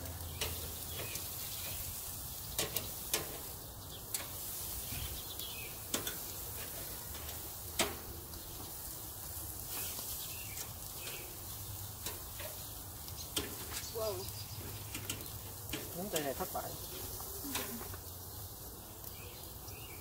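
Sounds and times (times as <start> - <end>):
food sizzling on a grill: 0.0 - 20.0.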